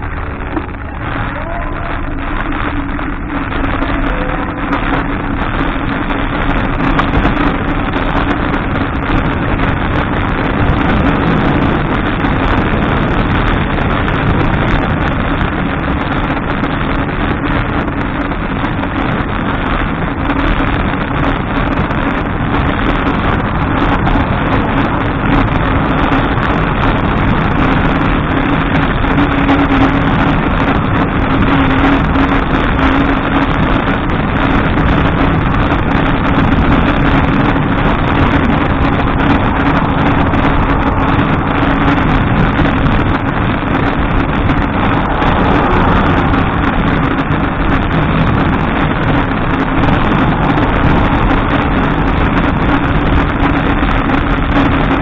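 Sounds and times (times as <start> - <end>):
road noise on asphalt: 0.0 - 55.0
steady low drone: 0.0 - 55.0
wind rushing over microphone: 0.0 - 55.0.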